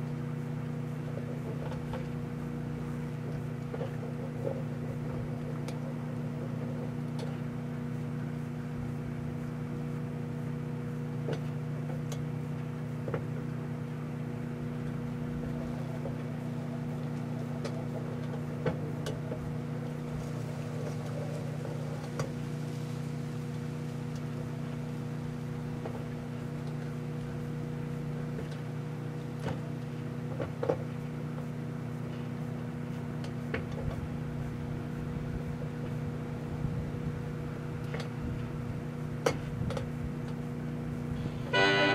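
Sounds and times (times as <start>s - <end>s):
microwave oven humming: 0.0s - 41.9s.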